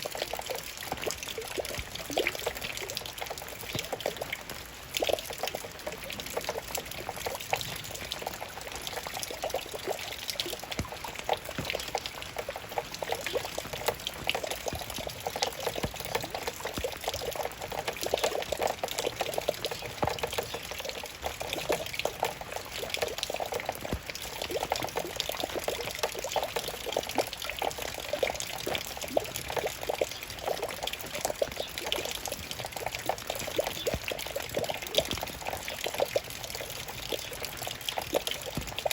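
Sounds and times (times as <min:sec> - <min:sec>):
rain pattering: 0:00.0 - 0:38.9
running water trickling: 0:00.0 - 0:38.9.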